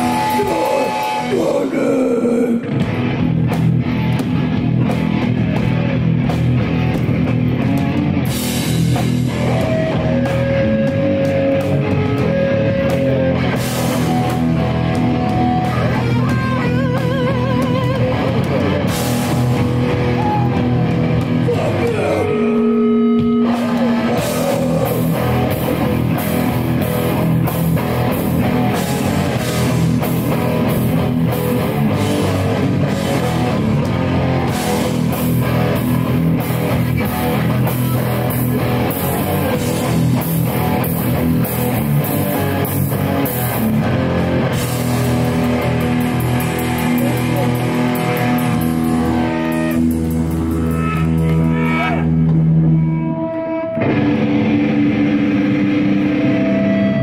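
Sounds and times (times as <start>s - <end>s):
electric guitar wavering notes: 0.0s - 57.0s
live rock band playing: 0.0s - 57.0s.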